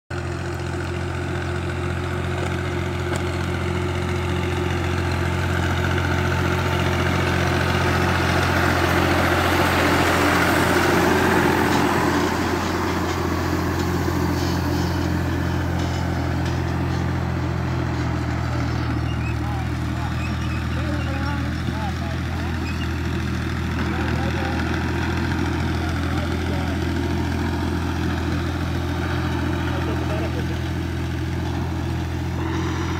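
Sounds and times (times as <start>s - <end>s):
tractor diesel engine driving by: 0.1s - 32.9s.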